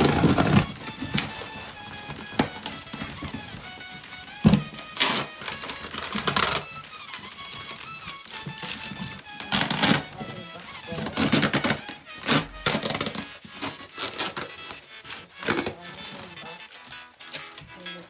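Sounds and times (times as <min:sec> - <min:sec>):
background music: 0:00.0 - 0:18.0
packaging being torn open: 0:00.0 - 0:18.0.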